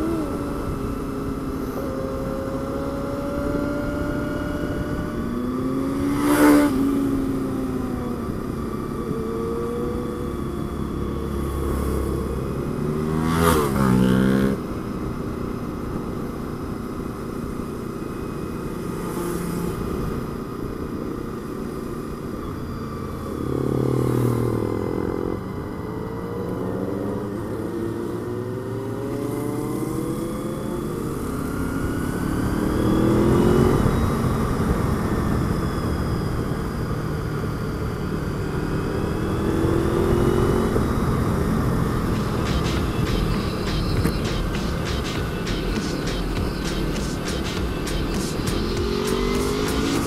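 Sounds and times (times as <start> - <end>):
motorcycle engine accelerating: 0.0 - 50.0.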